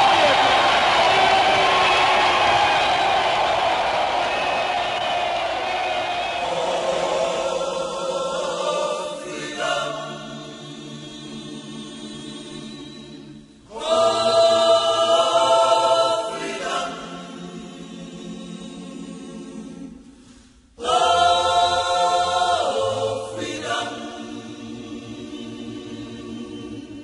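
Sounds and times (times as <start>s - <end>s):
choir singing long notes: 0.0s - 27.0s.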